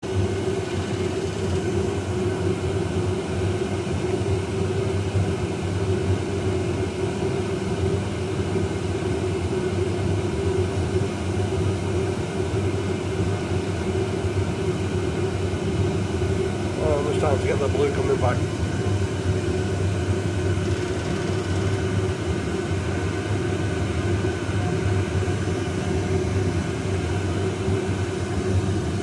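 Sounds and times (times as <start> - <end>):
oil burner rushing and humming: 0.0 - 29.0.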